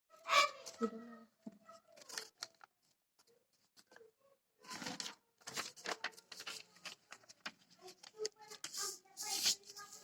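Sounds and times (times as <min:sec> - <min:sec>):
paper rustling and crinkling: 0:01.8 - 0:10.0.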